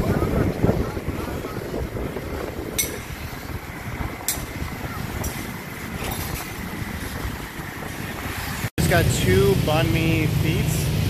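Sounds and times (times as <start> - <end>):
motorbike engine hum: 0.0 - 11.0
wind buffeting microphone: 0.0 - 11.0.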